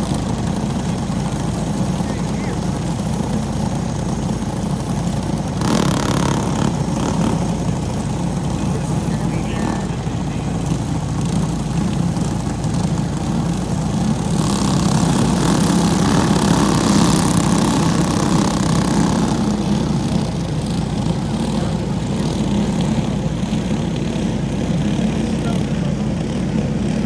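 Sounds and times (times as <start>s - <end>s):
kart engines idling: 0.0s - 27.0s.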